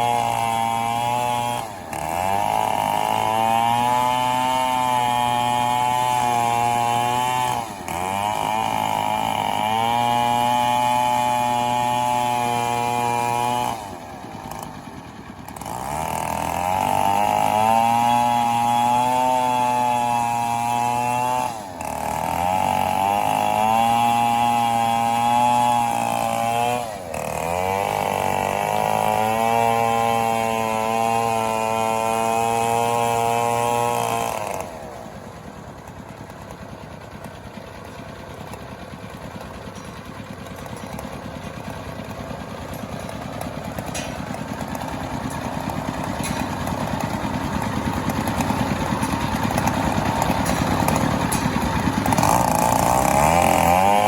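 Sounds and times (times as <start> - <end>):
chainsaw running at high revs: 0.0 - 54.0
rough engine sound: 0.0 - 54.0.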